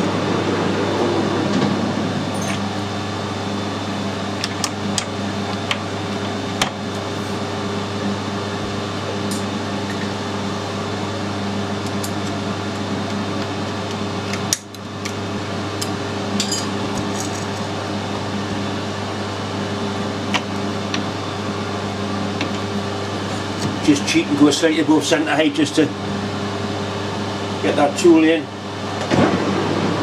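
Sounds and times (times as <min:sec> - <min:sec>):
electric machine hum: 0:00.0 - 0:30.0.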